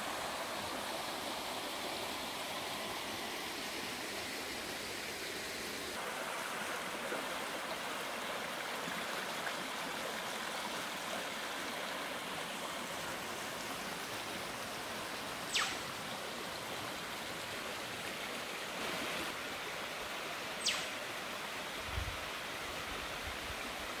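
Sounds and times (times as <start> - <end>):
creek running over rocks: 0.0 - 24.0.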